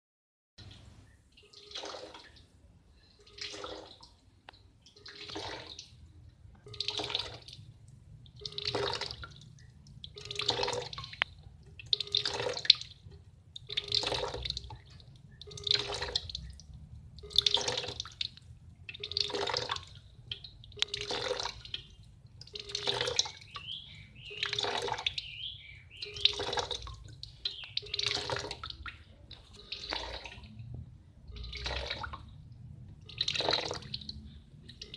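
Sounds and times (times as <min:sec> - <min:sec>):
water sloshing and gurgling: 0:00.6 - 0:34.9.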